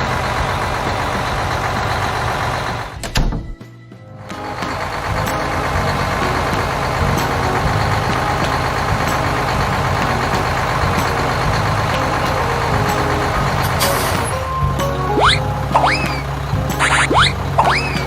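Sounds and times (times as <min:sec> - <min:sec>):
heavy vehicle engine running: 0:00.0 - 0:03.0, 0:04.2 - 0:18.0.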